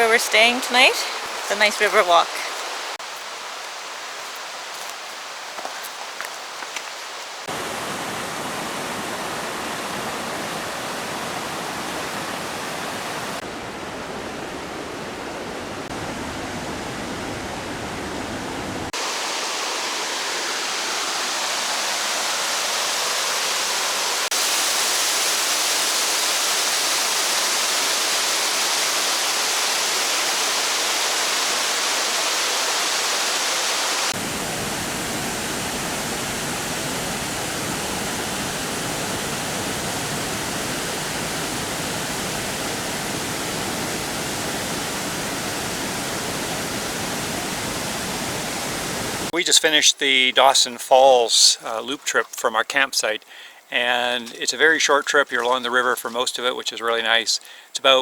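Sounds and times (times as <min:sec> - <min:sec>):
rushing river and waterfall: 0:00.0 - 0:58.0.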